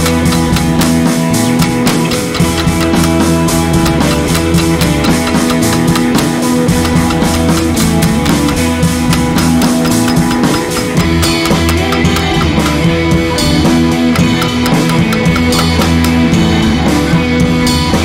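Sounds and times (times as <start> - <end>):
drum kit beat: 0.0 - 18.0
guitar: 0.0 - 18.0.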